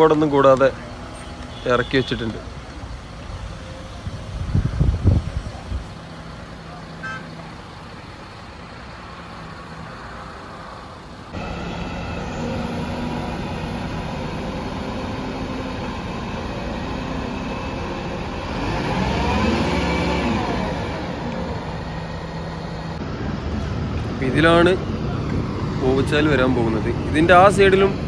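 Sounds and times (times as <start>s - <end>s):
heavy vehicle engine running: 0.0s - 28.0s.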